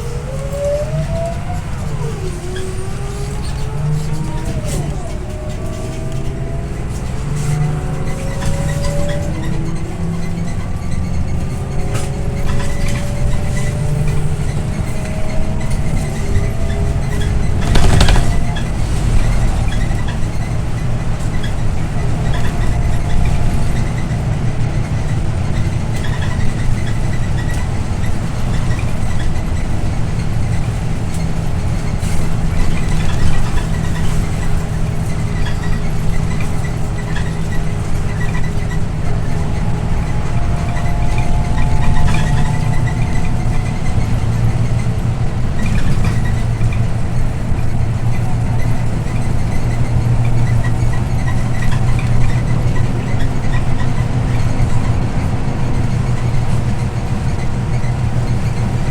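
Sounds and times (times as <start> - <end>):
bus engine droning: 0.0 - 58.9
road noise: 0.0 - 58.9.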